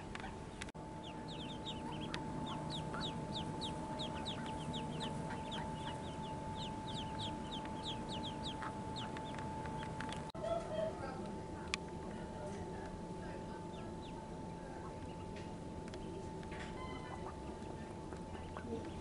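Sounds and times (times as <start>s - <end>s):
ducklings peeping: 0.0s - 10.6s, 13.3s - 19.0s
faint steady tone: 0.0s - 19.0s.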